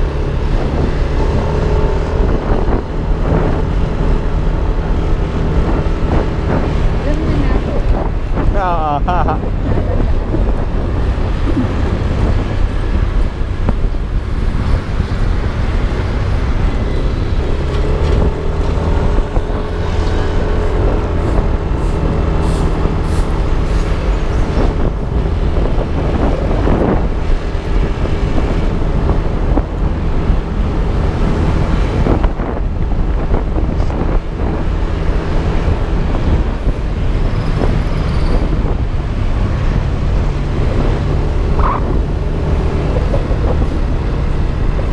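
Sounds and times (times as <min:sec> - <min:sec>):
pitched engine hum: 0:00.0 - 0:44.9
scooter engine and road rumble: 0:00.0 - 0:44.9.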